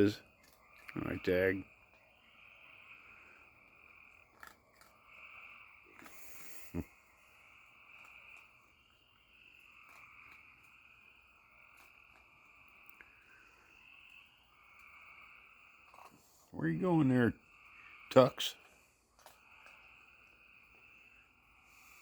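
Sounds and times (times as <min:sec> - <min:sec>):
frogs chorus calling: 0:00.0 - 0:22.0.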